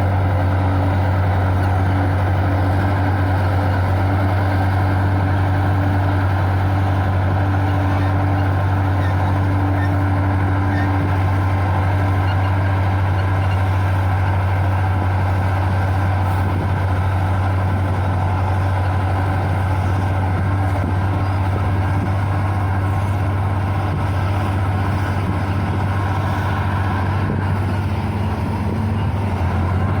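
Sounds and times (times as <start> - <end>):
construction machine engine running: 0.0 - 30.0.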